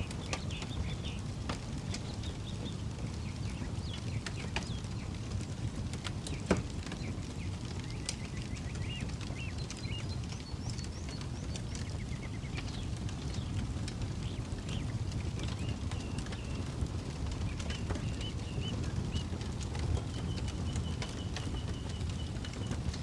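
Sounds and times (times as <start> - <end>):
birds chirping: 0.0 - 23.0
campfire crackling and popping: 0.0 - 23.0
low steady rumble: 0.0 - 23.0.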